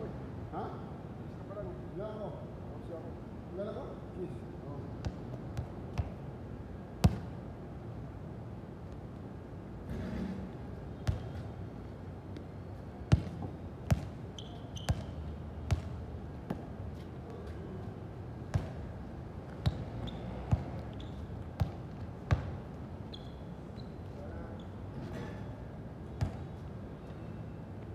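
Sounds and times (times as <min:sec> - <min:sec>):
steady low background noise: 0:00.0 - 0:27.9.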